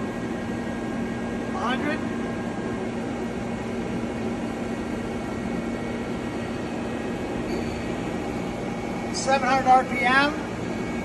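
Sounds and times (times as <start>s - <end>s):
lathe spindle humming: 0.0s - 11.0s.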